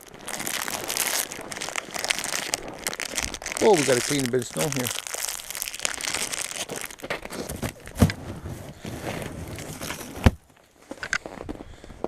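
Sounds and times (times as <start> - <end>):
snow crunching and scraping: 0.2 - 4.9, 6.2 - 11.8.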